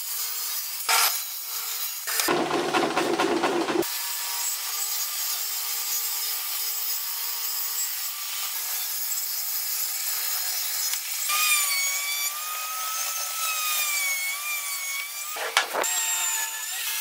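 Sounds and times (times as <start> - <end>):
table saw cutting wood: 0.1 - 17.0.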